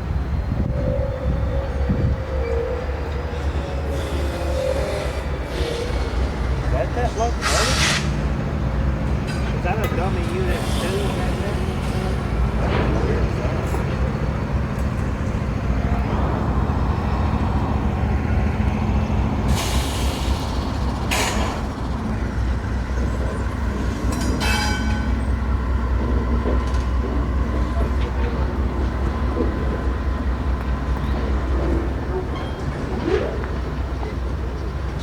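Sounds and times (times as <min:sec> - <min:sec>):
diesel train rumbling past: 0:00.0 - 0:35.0.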